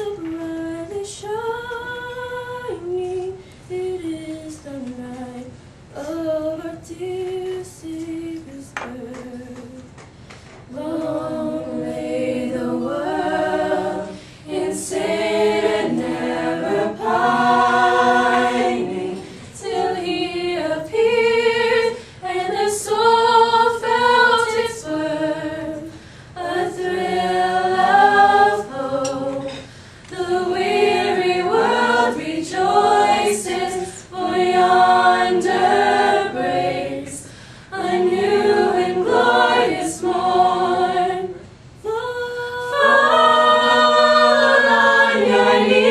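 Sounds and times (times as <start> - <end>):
choir singing a cappella: 0.0 - 9.5, 10.7 - 45.9.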